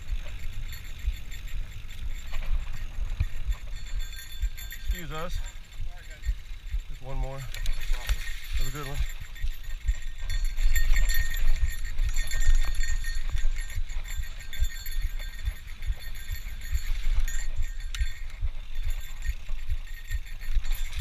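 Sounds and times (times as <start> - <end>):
bike rattling and clinking: 0.0 - 21.0.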